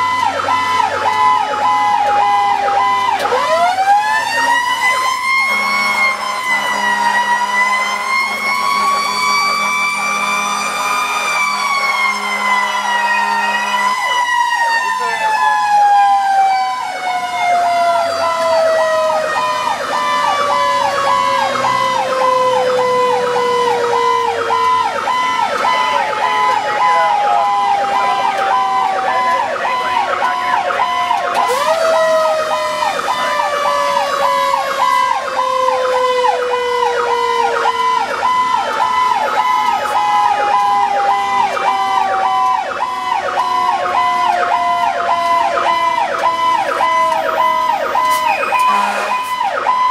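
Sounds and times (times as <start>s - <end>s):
electronic siren yelping: 0.0s - 49.9s
mechanical siren wailing: 0.0s - 49.9s.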